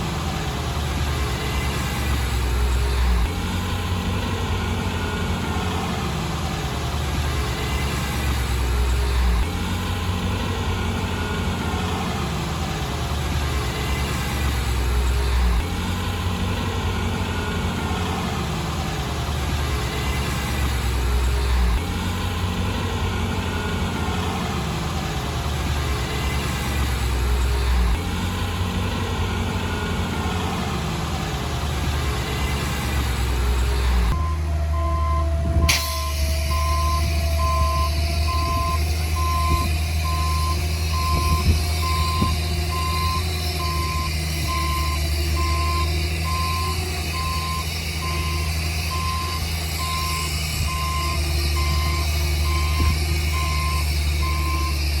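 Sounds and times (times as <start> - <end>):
diesel engine rumbling: 0.0 - 55.0.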